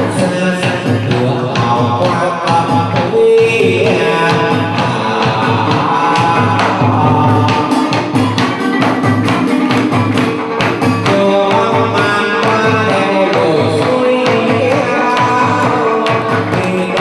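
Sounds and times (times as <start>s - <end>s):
person singing: 0.0s - 17.0s
plucked strings: 0.0s - 17.0s
sharp percussion strikes: 0.0s - 17.0s.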